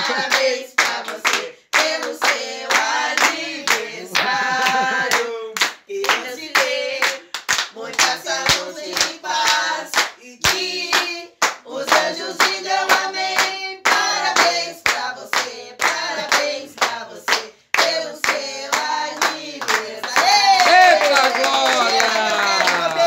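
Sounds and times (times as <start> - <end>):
group singing a celebration song: 0.0 - 23.0
people clapping in time: 0.0 - 23.0.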